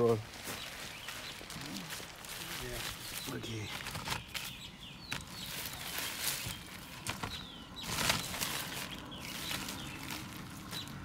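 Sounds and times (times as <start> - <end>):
maize cobs rustling on plastic tarp: 0.0 - 11.0
bird chirps: 0.5 - 1.9, 2.9 - 11.0.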